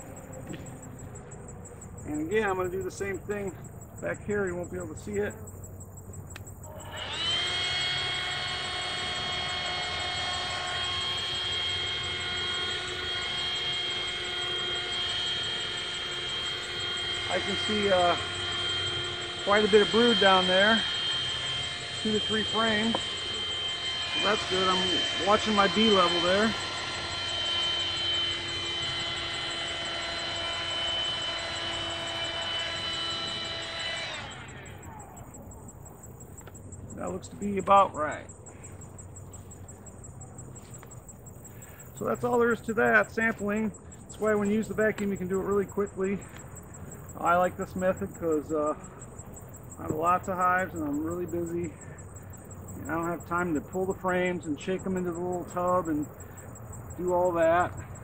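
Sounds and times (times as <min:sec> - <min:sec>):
handheld vacuum motor whining: 0:00.0 - 0:58.0.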